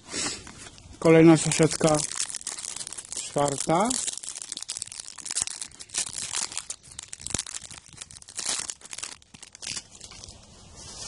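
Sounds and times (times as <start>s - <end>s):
foil packet tearing and crinkling: 1.2s - 10.4s.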